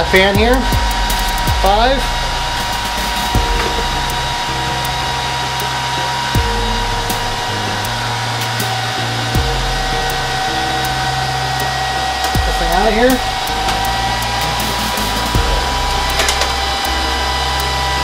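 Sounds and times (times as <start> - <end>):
server fans whirring: 0.0 - 18.0.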